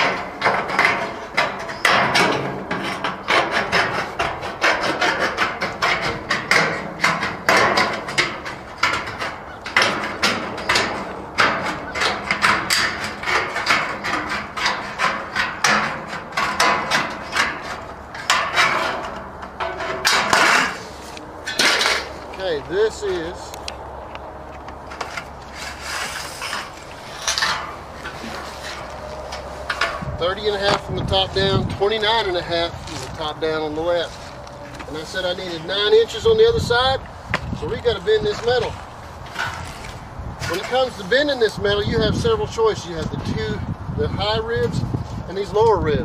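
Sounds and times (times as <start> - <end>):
sheet metal rattling: 0.0 - 23.5, 24.9 - 43.6.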